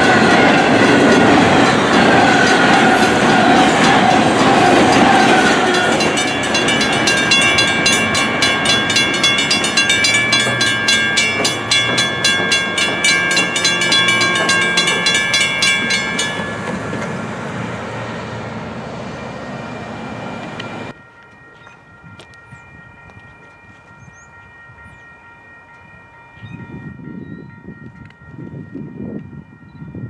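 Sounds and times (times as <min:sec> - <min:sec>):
crossing bell ringing: 0:00.0 - 0:30.0
freight train rumble: 0:00.0 - 0:30.0.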